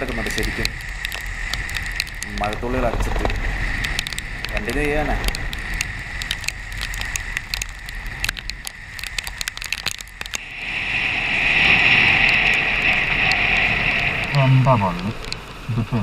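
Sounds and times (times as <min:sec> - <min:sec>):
raindrops ticking on helmet camera: 0:00.0 - 0:16.0
steady hiss: 0:00.0 - 0:16.0.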